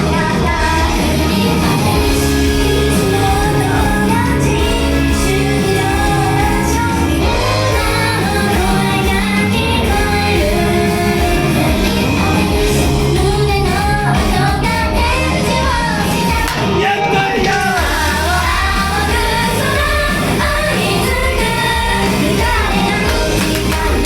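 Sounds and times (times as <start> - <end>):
female vocals singing: 0.0 - 16.8, 17.4 - 24.0
loud band backing track: 0.0 - 24.0.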